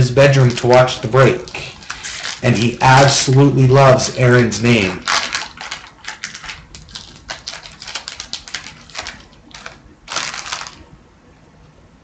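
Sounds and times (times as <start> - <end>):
wrapper tearing rustle: 0.0 - 3.6, 4.4 - 10.9
card pack crackling: 0.0 - 10.9
cards riffled clicking: 0.4 - 3.6, 4.3 - 10.9.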